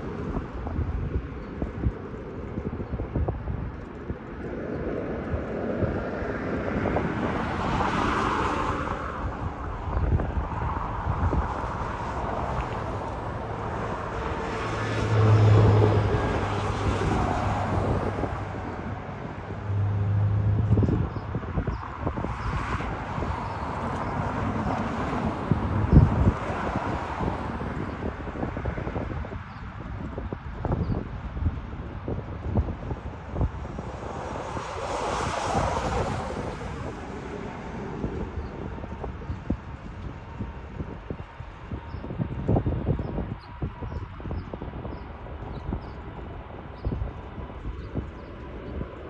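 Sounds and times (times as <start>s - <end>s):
jet engines rumbling: 0.0s - 49.0s
wind buffeting microphone: 0.0s - 49.0s.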